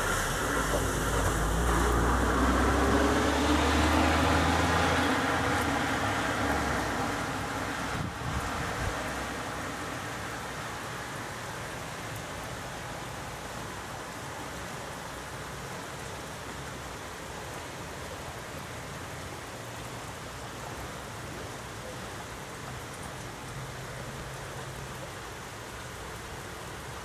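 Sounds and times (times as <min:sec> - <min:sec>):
heavy rain on roofs and leaves: 0:00.0 - 0:27.0.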